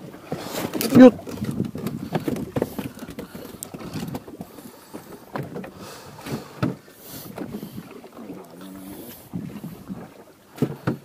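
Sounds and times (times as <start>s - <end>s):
knocks and clunks on boat: 0.0s - 11.0s
water sloshing against hull: 0.0s - 11.0s.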